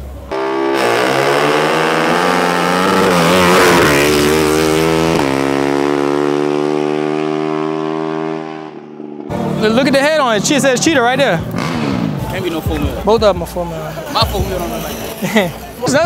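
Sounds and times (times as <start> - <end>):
race engine at full throttle: 0.0 - 16.0.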